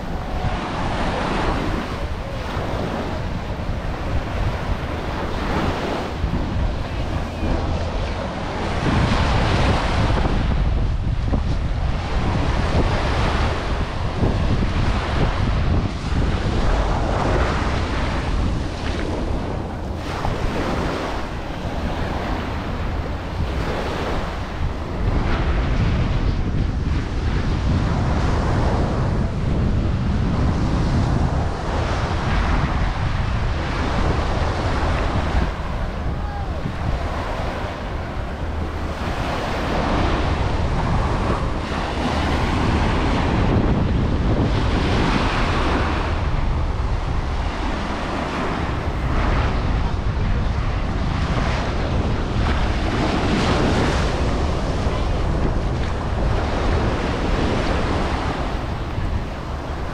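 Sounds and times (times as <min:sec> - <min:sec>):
ocean surf breaking: 0:00.0 - 0:59.9
wind rumbling on microphone: 0:00.0 - 0:59.9.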